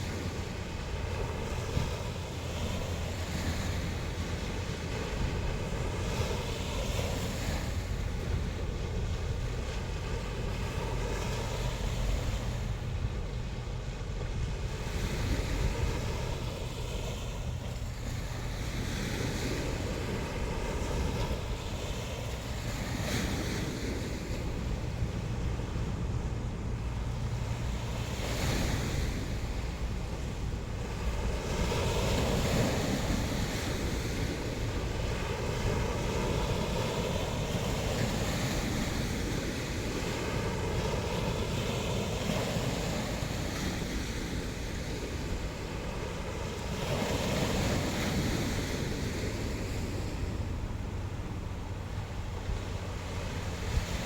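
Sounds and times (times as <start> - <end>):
low rumble of surf: 0.0 - 54.0
waves breaking on shore: 0.0 - 54.0
wind buffeting microphone: 0.0 - 54.0.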